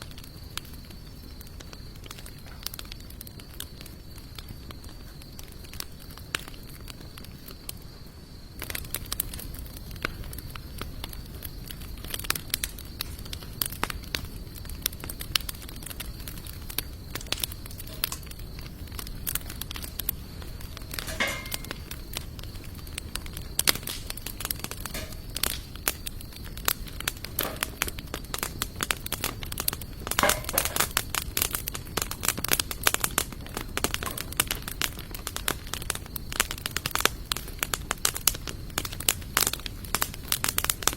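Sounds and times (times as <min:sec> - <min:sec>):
campfire logs crackling: 0:00.0 - 0:40.9
sharp pops of fire: 0:00.0 - 0:40.9.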